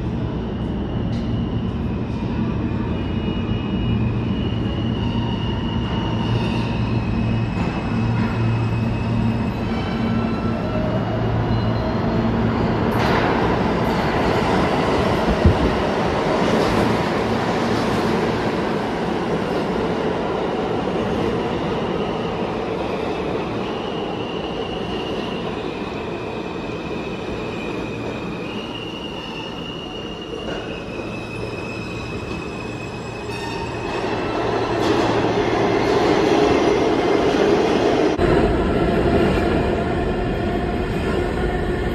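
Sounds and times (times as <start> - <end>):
subway train rumble: 0.0 - 41.9.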